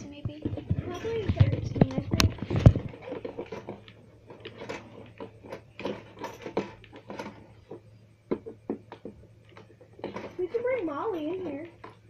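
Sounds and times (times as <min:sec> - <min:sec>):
handling clicks taps and rustles: 0:00.0 - 0:12.0.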